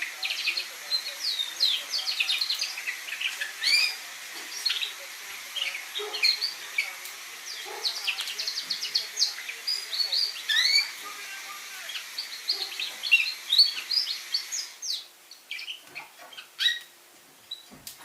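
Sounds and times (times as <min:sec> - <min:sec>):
canary singing chirps: 0:00.0 - 0:17.7.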